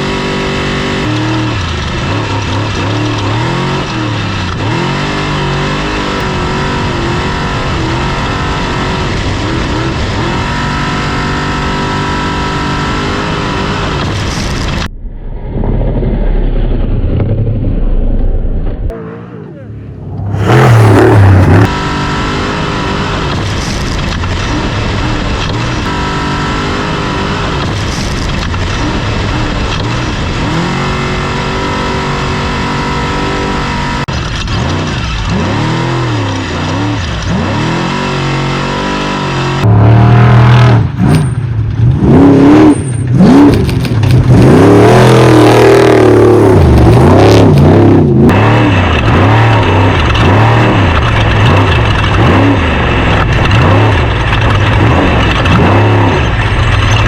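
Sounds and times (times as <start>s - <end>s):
race truck engine revving: 0.0s - 14.9s, 18.8s - 57.0s.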